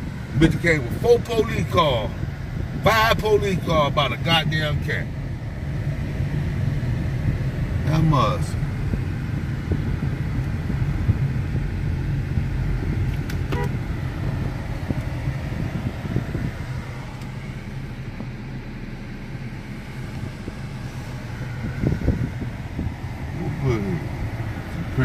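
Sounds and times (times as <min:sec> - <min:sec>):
car cabin road rumble: 0:00.0 - 0:25.0.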